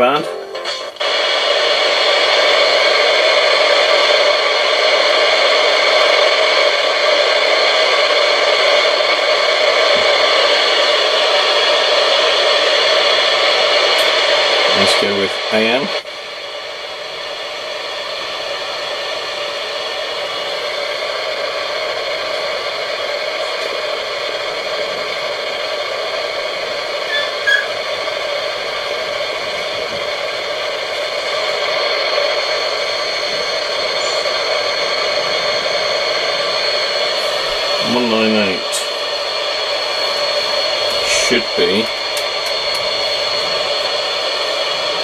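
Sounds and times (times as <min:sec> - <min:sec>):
radio static hiss: 0:00.0 - 0:45.0
whining interference tones: 0:00.0 - 0:45.0.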